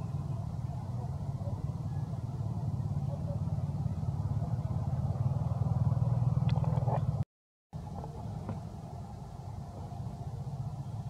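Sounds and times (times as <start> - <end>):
vehicle engine running: 0.0 - 7.2, 7.8 - 11.0.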